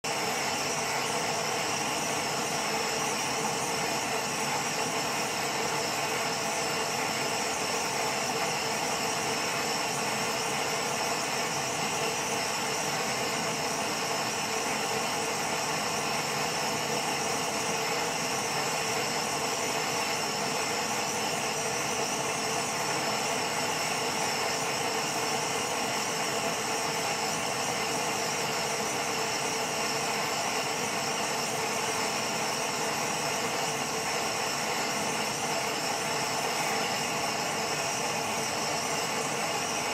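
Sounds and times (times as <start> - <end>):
furnace hum and hiss: 0.1 - 39.9.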